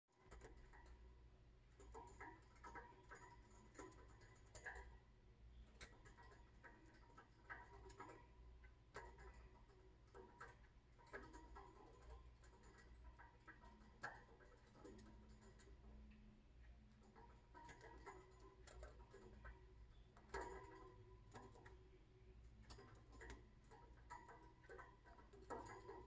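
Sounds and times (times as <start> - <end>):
steady low hum: 0.1 - 26.0
bird clicking in wire cage: 0.2 - 1.1, 1.7 - 15.9, 16.9 - 26.0.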